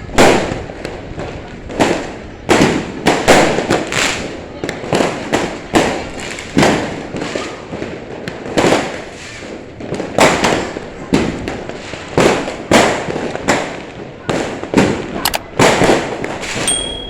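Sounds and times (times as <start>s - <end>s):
fireworks bursting with echoing bangs: 0.0s - 17.0s.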